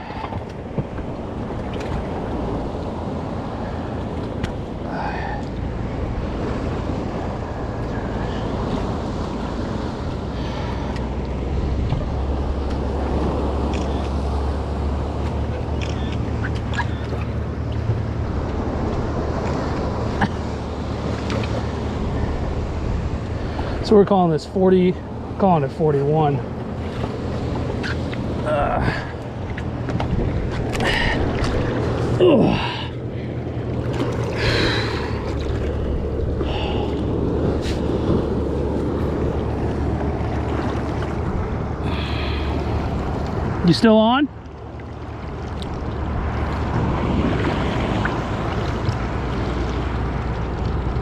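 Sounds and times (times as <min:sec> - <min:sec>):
boat engine idling: 0:00.0 - 0:51.0
water noise: 0:00.0 - 0:51.0
wind: 0:00.0 - 0:51.0.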